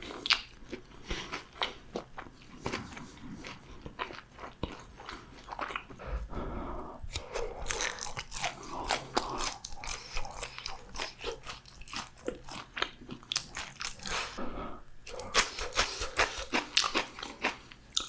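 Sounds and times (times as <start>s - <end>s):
crunching and chewing fried food: 0.0s - 6.2s, 7.1s - 14.4s, 15.0s - 18.0s.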